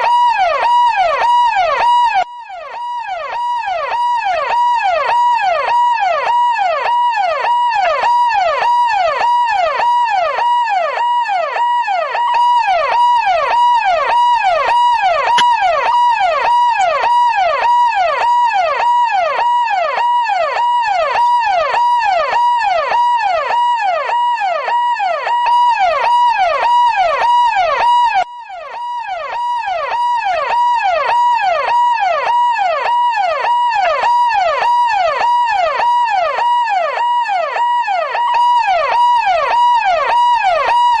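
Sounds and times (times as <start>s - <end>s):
police siren yelping: 0.0s - 41.0s.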